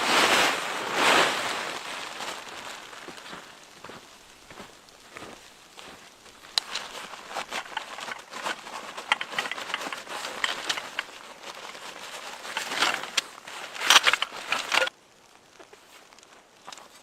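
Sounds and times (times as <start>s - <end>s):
crunching and crackling: 0.0s - 17.0s.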